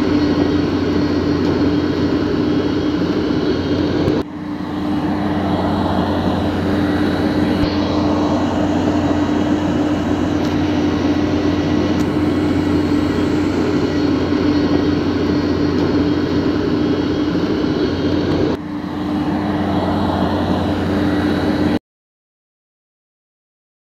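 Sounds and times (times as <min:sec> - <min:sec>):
electric motors whining: 0:00.0 - 0:21.8.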